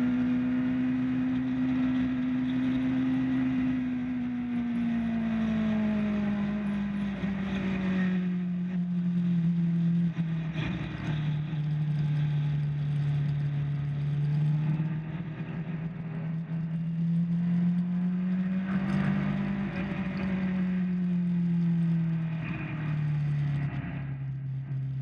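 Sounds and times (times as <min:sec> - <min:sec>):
motorcycle engine running hard: 0:00.0 - 0:25.0.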